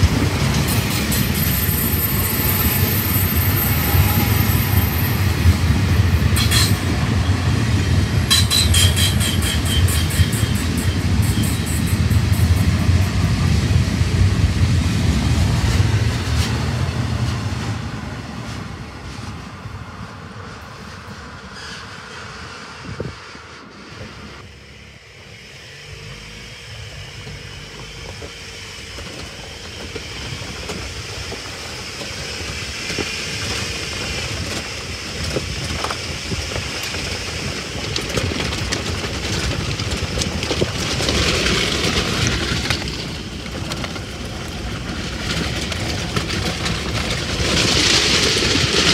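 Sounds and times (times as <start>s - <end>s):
car engine and tyre noise: 0.0s - 48.9s.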